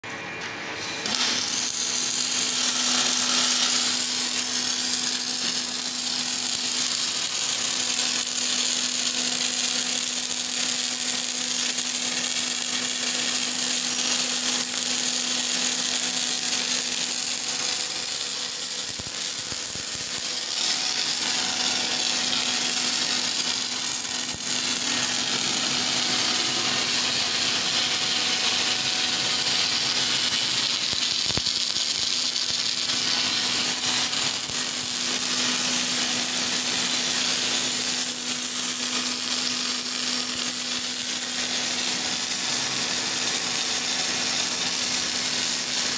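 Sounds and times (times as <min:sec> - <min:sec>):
arc welding hissing crackle: 0:00.8 - 0:45.9.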